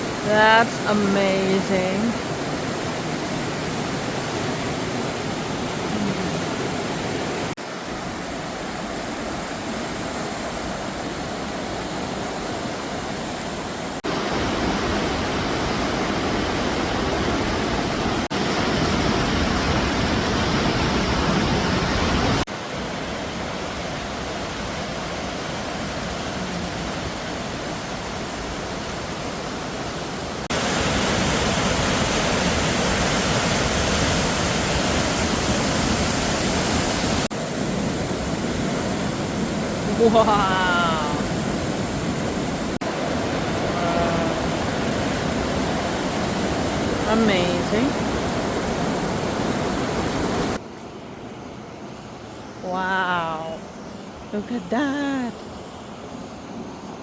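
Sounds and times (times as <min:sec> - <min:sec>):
flooding creek rushing: 0:00.0 - 0:50.6.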